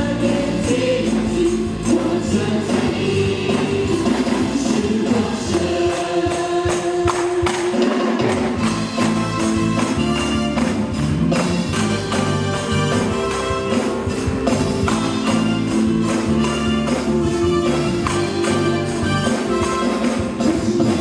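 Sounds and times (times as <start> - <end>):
bright percussion beat: 0.0 - 21.0
worship band playing: 0.0 - 21.0.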